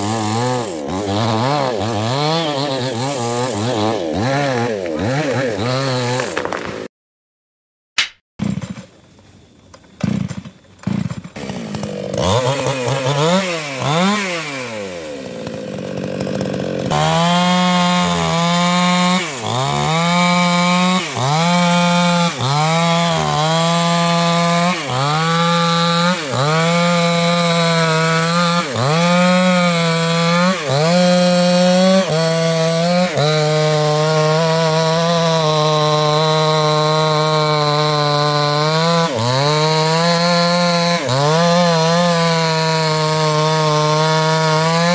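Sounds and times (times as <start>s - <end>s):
chainsaw revving: 0.0s - 6.8s, 10.0s - 44.9s
chainsaw cutting wood: 0.0s - 6.9s, 8.0s - 8.9s, 10.0s - 44.9s.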